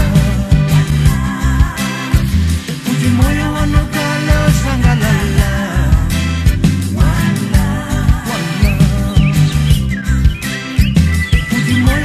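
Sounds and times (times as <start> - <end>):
pop song with deep bass and drums: 0.0 - 12.0.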